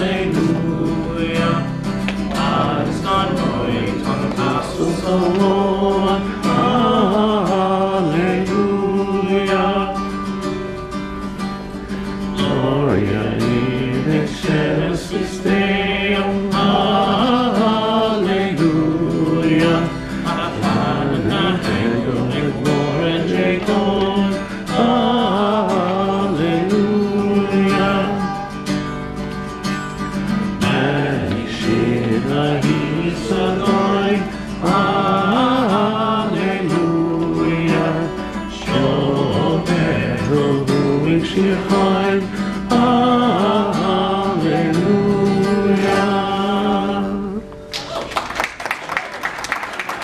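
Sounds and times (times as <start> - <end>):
students singing together: 0.0 - 10.2, 12.3 - 28.8, 30.3 - 47.5.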